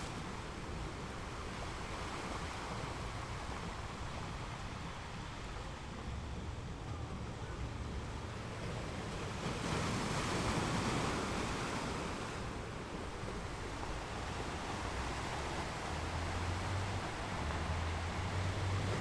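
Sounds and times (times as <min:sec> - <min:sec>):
ocean waves washing ashore: 0:00.0 - 0:19.0.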